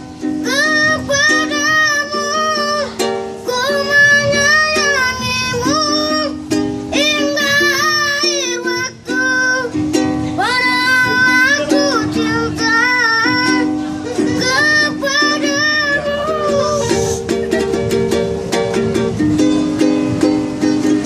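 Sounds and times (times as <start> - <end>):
strummed plucked string instrument: 0.0 - 21.0
child singing: 0.4 - 17.3.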